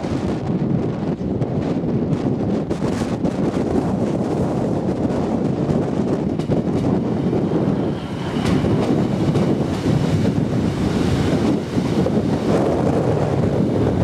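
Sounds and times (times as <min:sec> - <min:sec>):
train rumbling past: 0:00.0 - 0:14.0
wind buffeting microphone: 0:00.0 - 0:14.0.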